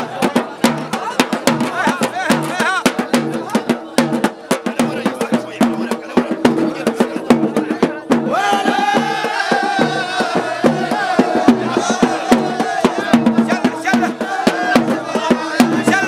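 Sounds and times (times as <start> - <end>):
drums beating steady rhythm: 0.0 - 16.0
men chanting in unison: 0.0 - 16.0.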